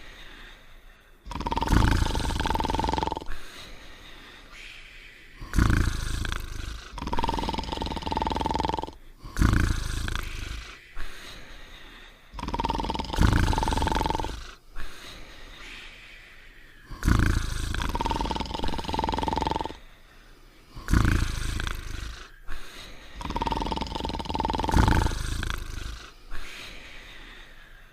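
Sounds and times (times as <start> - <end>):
cartoon dogs snoring: 1.2 - 3.8, 5.3 - 15.8, 16.8 - 19.9, 20.7 - 27.6.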